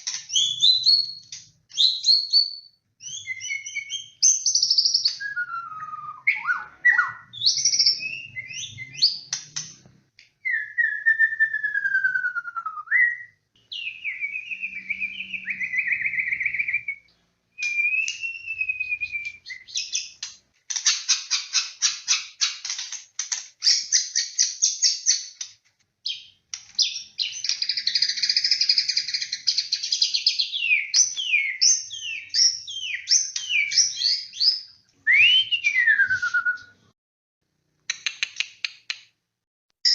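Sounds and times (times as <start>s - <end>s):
bird singing varied song: 0.0s - 22.8s, 23.6s - 36.8s.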